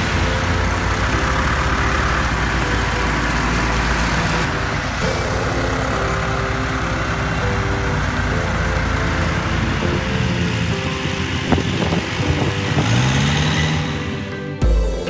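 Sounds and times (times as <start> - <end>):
farm machinery engine rumble: 0.0 - 14.6
background music: 0.0 - 15.0.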